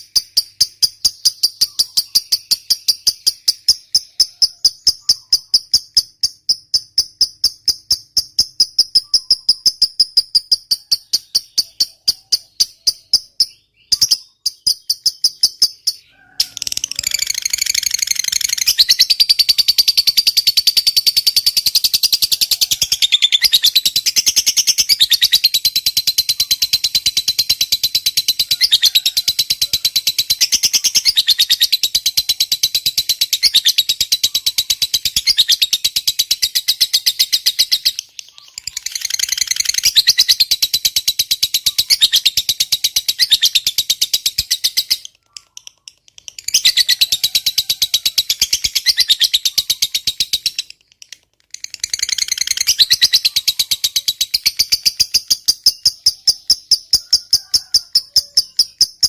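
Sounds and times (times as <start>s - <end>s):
lovebird chattering trill: 0.0s - 59.0s
lovebird chirping: 0.0s - 59.0s.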